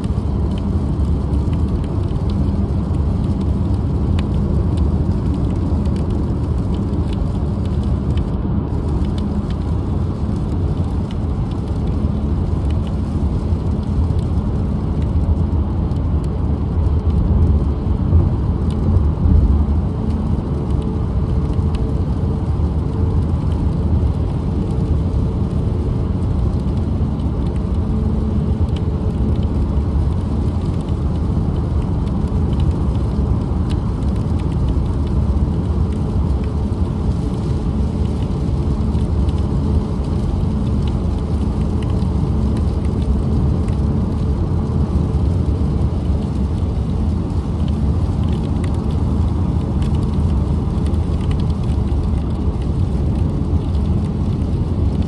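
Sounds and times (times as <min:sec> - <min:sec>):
car road noise inside cabin: 0:00.0 - 0:55.0.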